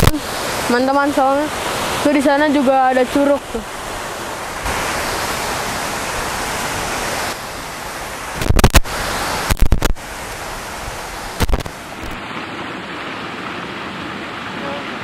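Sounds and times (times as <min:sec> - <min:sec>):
distant waterfall rushing: 0:00.0 - 0:15.0.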